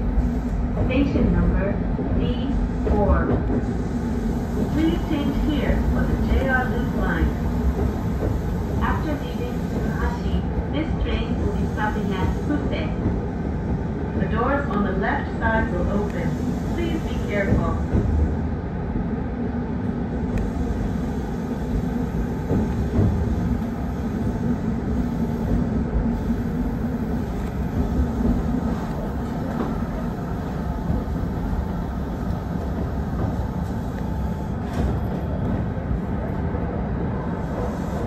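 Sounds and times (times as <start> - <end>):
train wheels rumbling: 0.0 - 19.0, 19.6 - 38.0.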